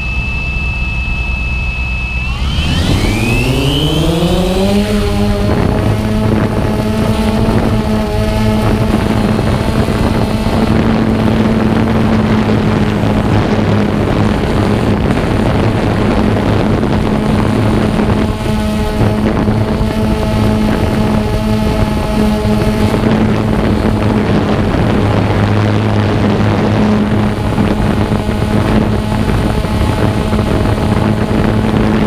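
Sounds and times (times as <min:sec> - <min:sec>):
drone propellers whirring: 0:00.0 - 0:32.0
wind buffeting microphone: 0:00.0 - 0:32.0.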